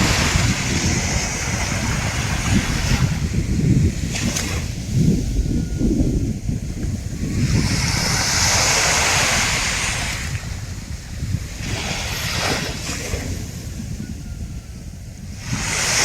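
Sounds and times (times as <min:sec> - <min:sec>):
surf washing up a beach: 0:00.0 - 0:16.0.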